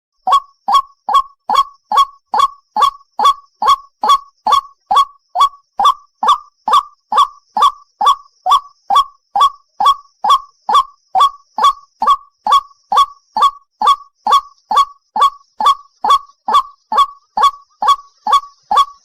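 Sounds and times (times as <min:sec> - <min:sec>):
bird calling harsh repeated notes: 0:00.2 - 0:19.0.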